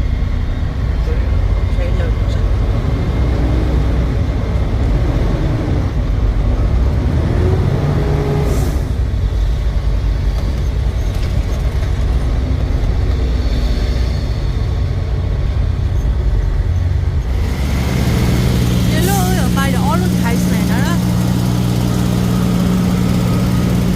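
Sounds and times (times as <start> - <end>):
truck engine running: 0.0 - 23.9.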